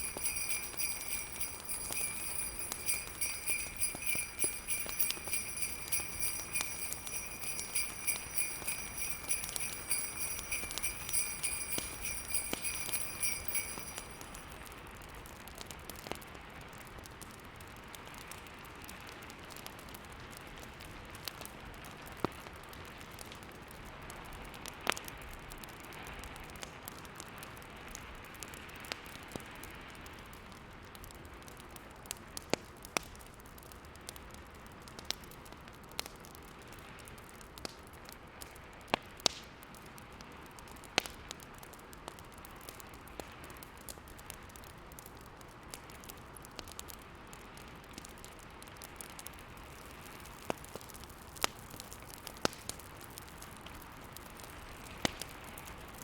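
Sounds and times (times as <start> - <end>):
fire crackling and popping: 0.0 - 14.6, 24.6 - 56.0.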